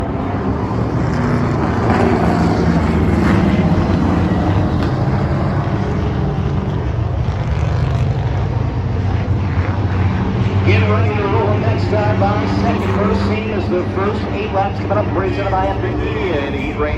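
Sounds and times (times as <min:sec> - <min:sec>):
truck engines droning: 0:00.0 - 0:16.9.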